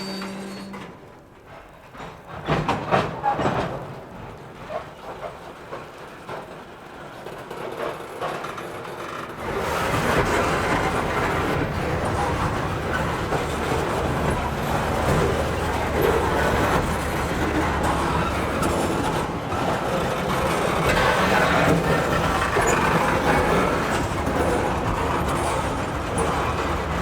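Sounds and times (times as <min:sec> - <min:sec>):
freight train passing on rails: 0:00.0 - 0:27.0.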